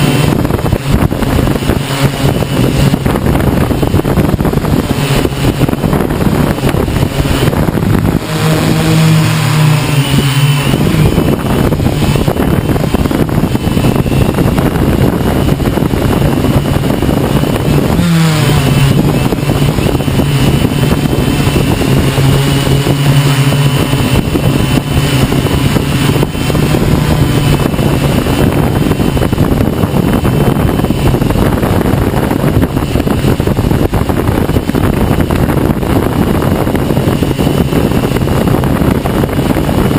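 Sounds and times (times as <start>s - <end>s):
drone propellers humming: 0.0s - 39.9s
wind buffeting microphone: 0.0s - 39.9s.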